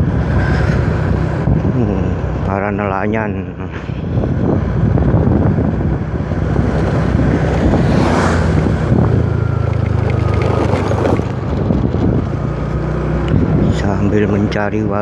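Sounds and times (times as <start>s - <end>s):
vehicle engine hum: 0.0s - 15.0s
wind buffeting microphone: 0.0s - 15.0s.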